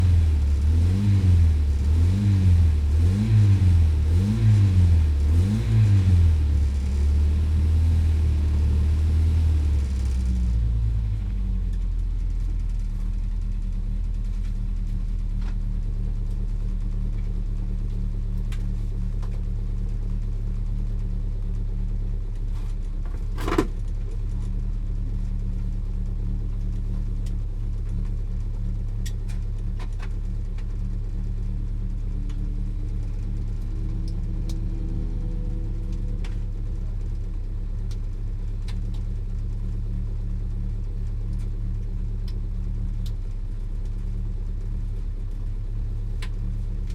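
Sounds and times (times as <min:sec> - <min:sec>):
car engine revving and idling: 0:00.0 - 0:46.9.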